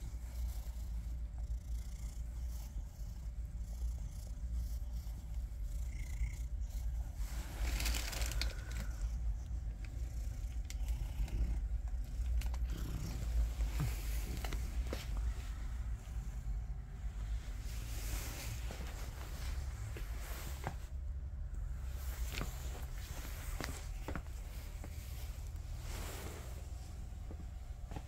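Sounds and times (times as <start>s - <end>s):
hand rubbing cat fur: 0.0s - 28.0s
low steady rumble: 0.0s - 28.0s.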